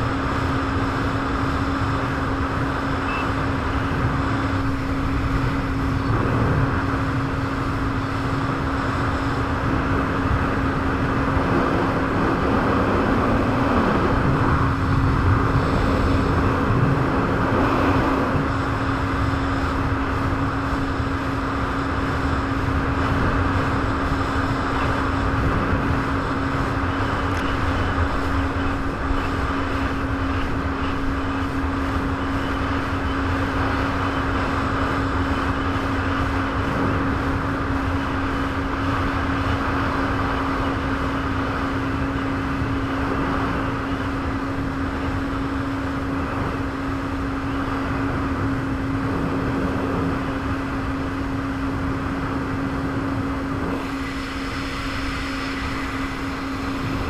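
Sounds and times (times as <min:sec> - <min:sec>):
jet ski engine droning: 0:00.0 - 0:57.0
rushing noise: 0:00.0 - 0:57.0.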